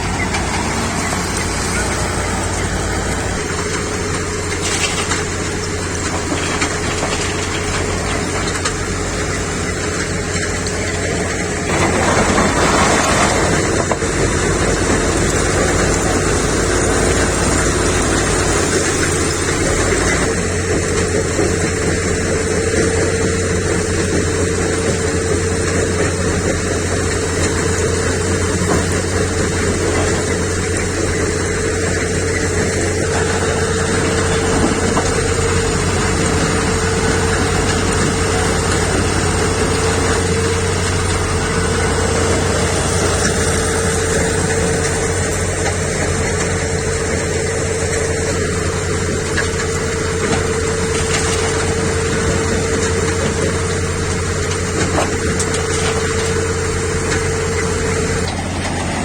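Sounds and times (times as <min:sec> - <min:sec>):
constant engine whine: 0:00.0 - 0:59.0
diesel engine running: 0:00.0 - 0:59.0.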